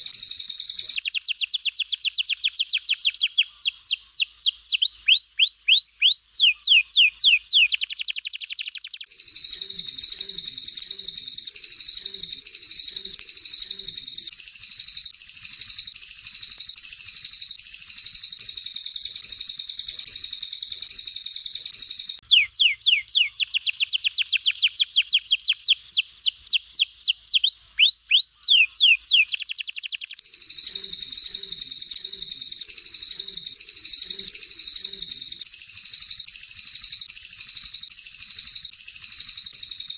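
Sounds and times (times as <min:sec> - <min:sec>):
high buzzing bird trills: 0:00.0 - 0:39.9.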